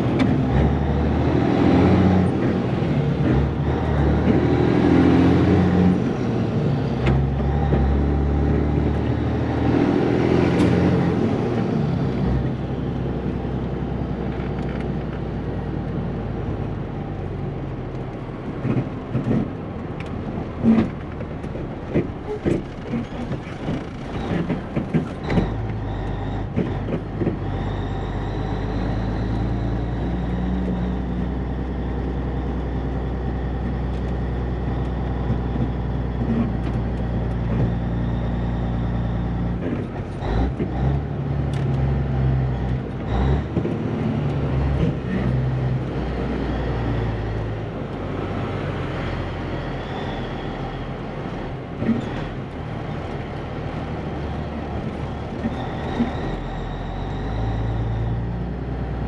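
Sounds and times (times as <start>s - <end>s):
truck diesel engine from inside cab: 0.0s - 59.0s.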